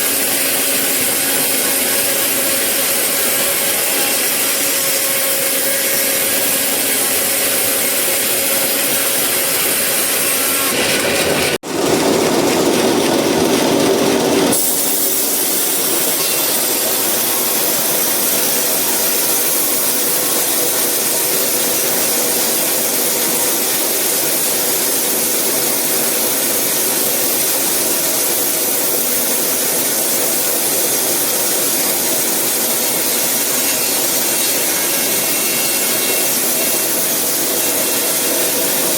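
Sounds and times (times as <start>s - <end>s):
saw cutting through wood: 0.0s - 38.9s.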